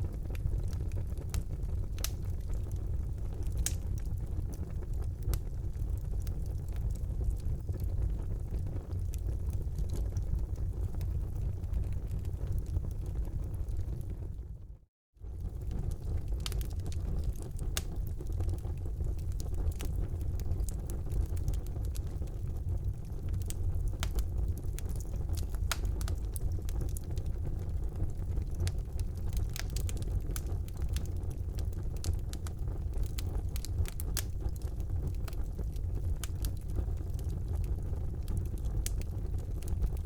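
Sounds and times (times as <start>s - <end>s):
fire crackling in fireplace: 0.0s - 40.0s.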